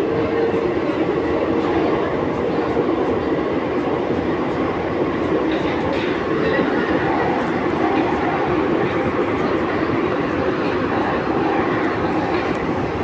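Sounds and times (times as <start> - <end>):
train running inside passenger car: 0.0 - 13.0.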